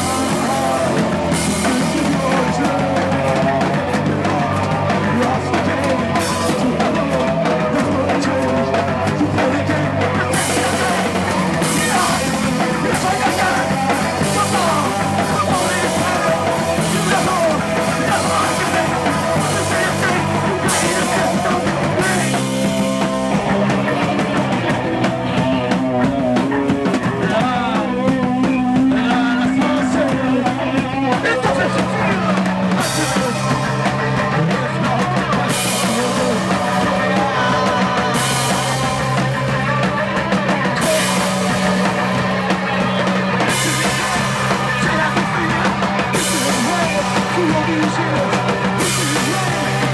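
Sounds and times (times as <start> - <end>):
rock band playing: 0.0 - 49.9.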